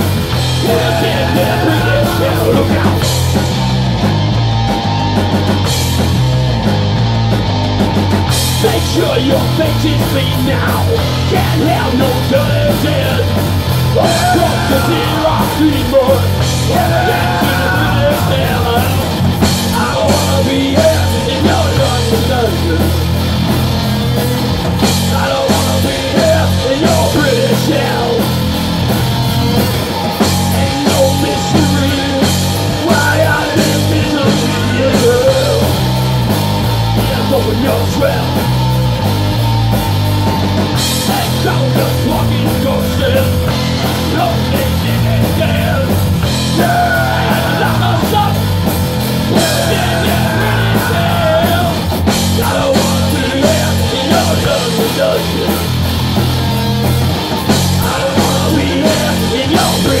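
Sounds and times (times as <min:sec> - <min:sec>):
distorted electric guitars: 0:00.0 - 1:00.0
drum kit: 0:00.0 - 1:00.0
yelled vocals: 0:00.0 - 1:00.0.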